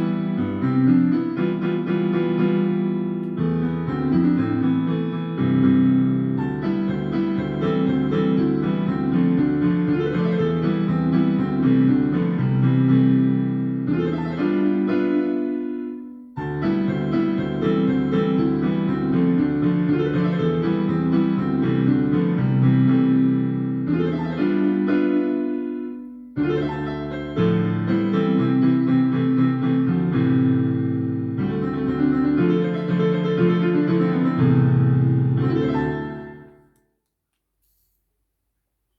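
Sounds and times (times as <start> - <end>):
piano music: 0.0 - 36.8.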